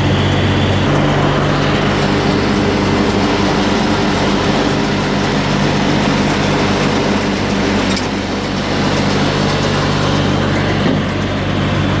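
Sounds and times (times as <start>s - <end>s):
baler engine running steadily: 0.0s - 12.0s.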